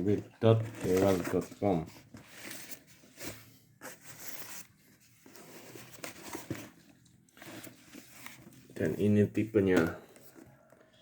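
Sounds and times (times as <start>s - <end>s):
cardboard box rustling and scraping: 0.0s - 10.4s.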